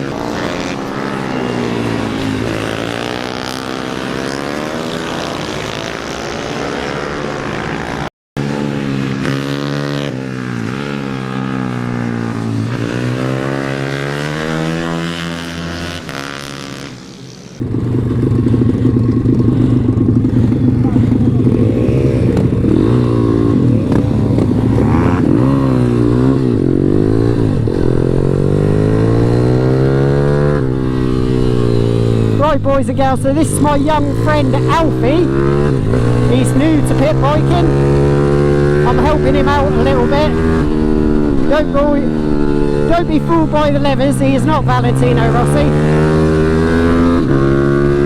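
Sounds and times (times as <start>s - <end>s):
motorbike engine revving: 0.0s - 48.0s.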